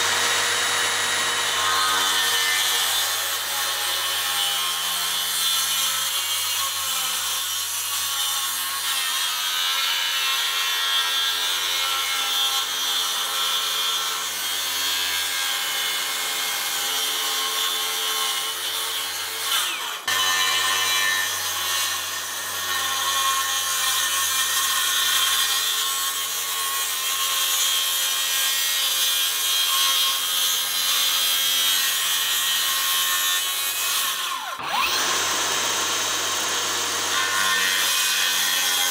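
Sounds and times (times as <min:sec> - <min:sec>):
circular saw cutting: 0:00.0 - 0:38.9.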